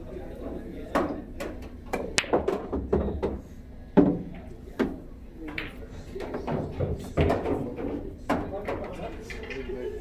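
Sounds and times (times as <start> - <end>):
faint background chatter: 0.0 - 10.0.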